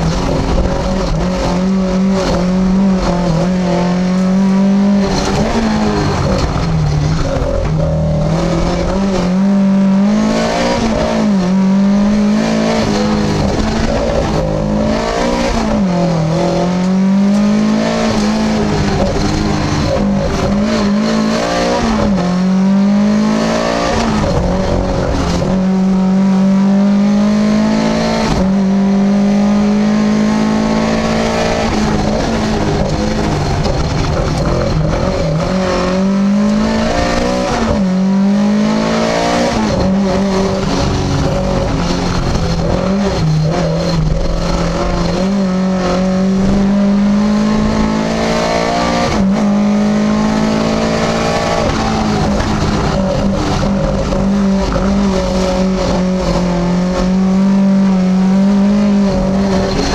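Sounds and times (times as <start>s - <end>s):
rally car engine at high revs: 0.0s - 59.9s.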